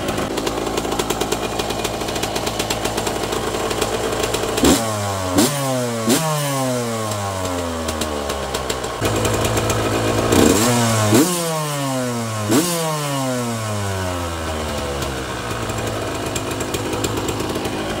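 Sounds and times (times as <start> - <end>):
motorcycle engine idling: 0.0 - 18.0
motorcycle engine revving: 0.0 - 18.0.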